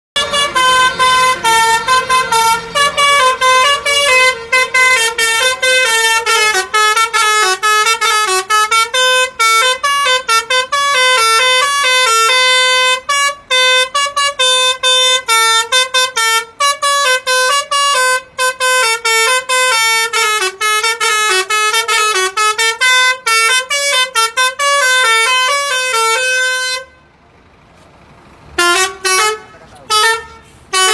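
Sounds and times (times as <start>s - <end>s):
multi-tone bus horn tune: 0.2s - 27.2s, 28.4s - 30.9s.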